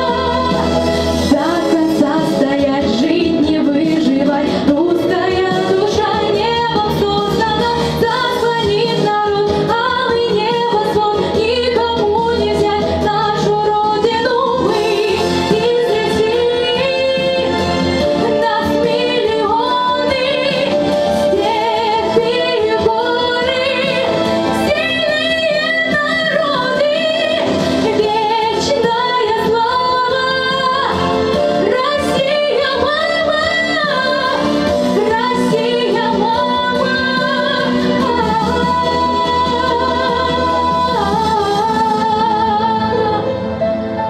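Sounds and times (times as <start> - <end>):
woman singing pop song: 0.0 - 43.6
instrumental accompaniment: 0.0 - 44.0.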